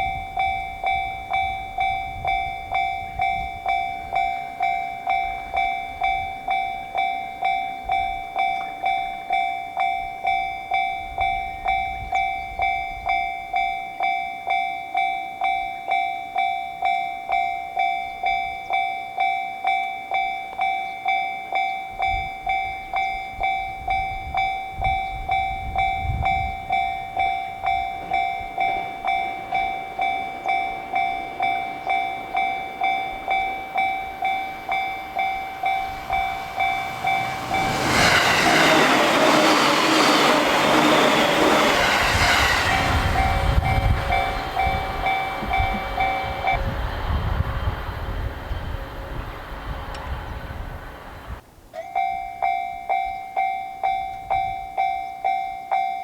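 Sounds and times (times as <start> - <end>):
level-crossing bell ringing: 0.0 - 46.8, 51.8 - 56.0.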